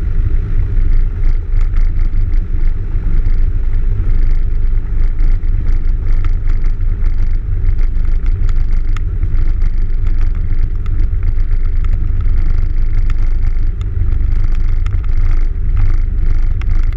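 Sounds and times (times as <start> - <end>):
propeller plane engine droning: 0.0 - 16.9
light clicks and rattles: 0.8 - 16.9.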